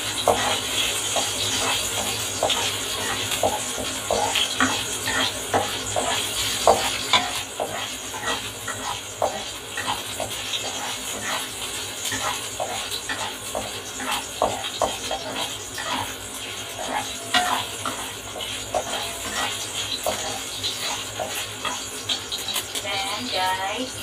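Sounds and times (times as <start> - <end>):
pork fat sizzling in a wok: 0.0 - 24.0
spatula scraping and tapping pan: 0.1 - 22.9.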